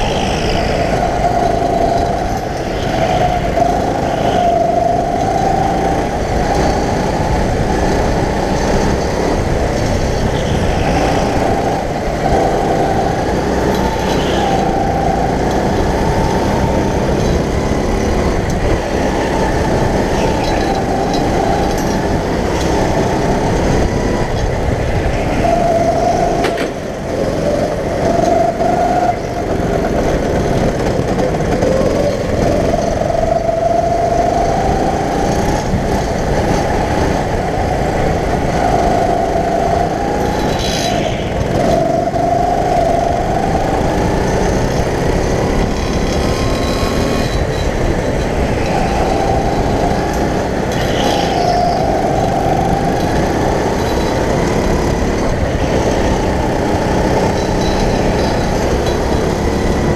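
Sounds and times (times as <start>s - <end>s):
go-kart motor racing: 0.0s - 59.9s.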